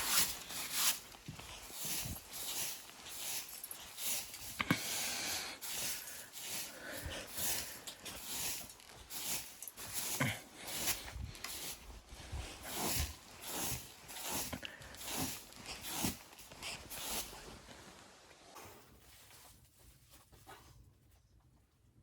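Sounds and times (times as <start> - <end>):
footsteps crunching in snow: 0.0 - 18.2.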